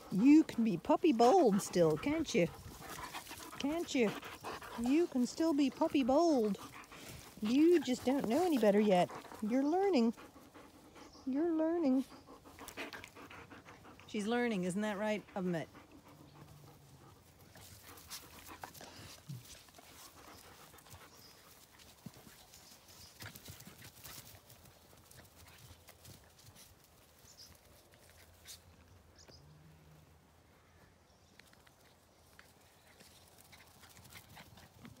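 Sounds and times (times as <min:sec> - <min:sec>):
rustles: 0:00.0 - 0:35.0.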